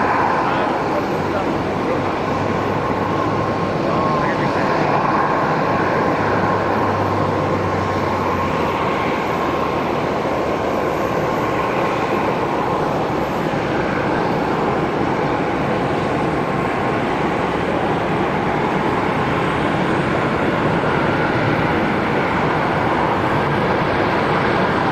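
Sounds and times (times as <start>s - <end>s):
jet engine roar: 0.0s - 24.9s.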